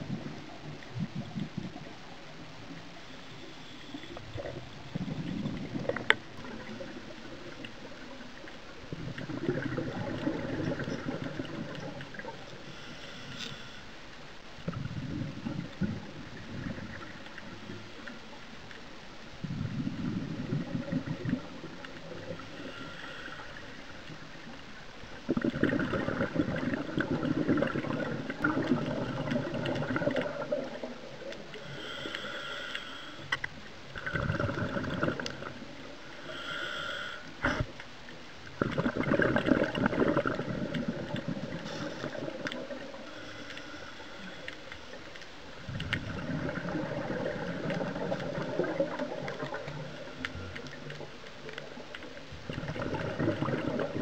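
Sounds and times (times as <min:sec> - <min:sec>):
regulator bubbles gurgling underwater: 0:00.0 - 0:54.0.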